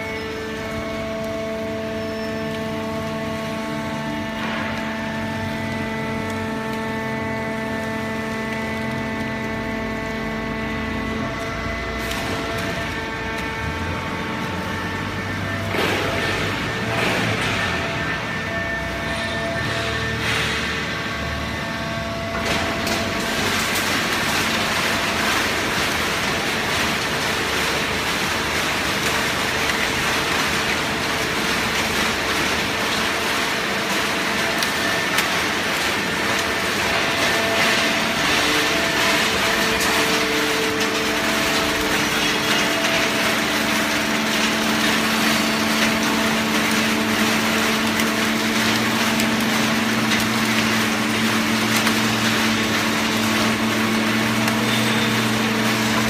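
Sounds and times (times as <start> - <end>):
hydraulic baling press running: 0.0 - 56.0
low machine hum: 0.0 - 56.0.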